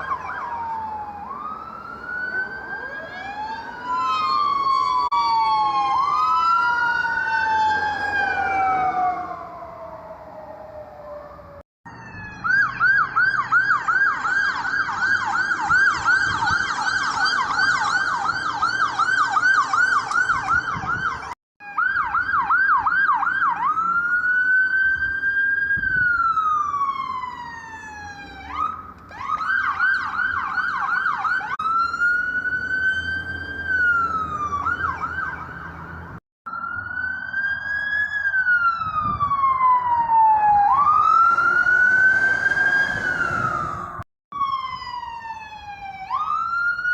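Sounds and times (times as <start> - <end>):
electronic sirens wailing: 0.0 - 46.9
siren yelp: 0.0 - 46.9.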